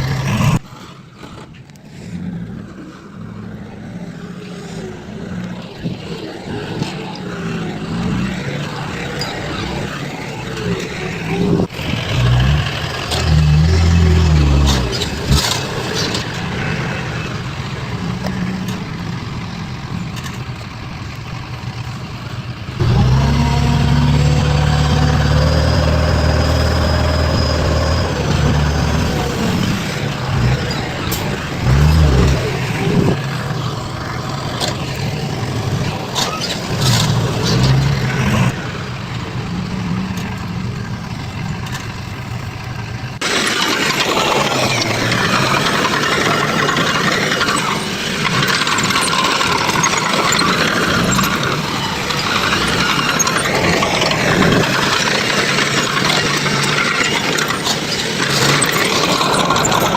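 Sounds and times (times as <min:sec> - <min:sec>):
heavy machinery engines running: 0:00.0 - 0:59.9.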